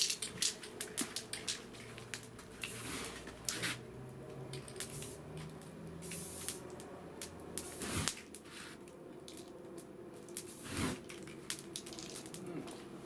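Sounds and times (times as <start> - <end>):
bonfire crackling and popping: 0.0 - 12.9.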